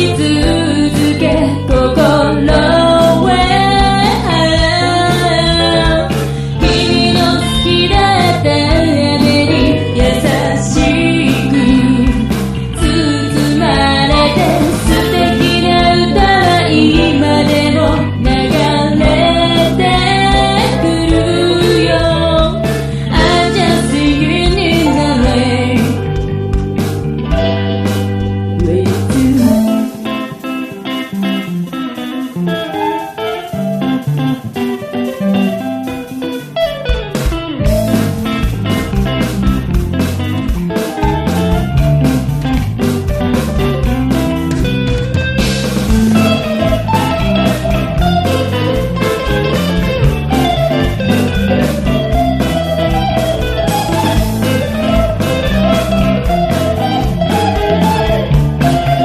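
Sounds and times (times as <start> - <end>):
bass guitar: 0.0 - 59.0
electric guitar melody: 0.0 - 59.0
programmed drums: 0.0 - 59.0.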